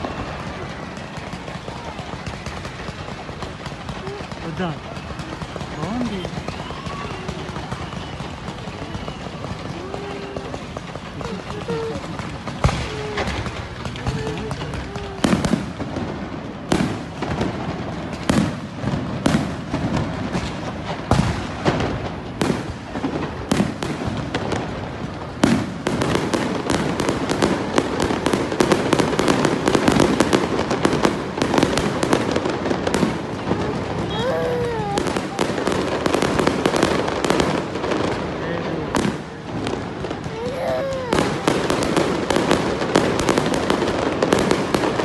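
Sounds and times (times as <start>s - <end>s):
crackling firework pops: 0.0s - 45.0s
fireworks bursting: 0.0s - 45.0s.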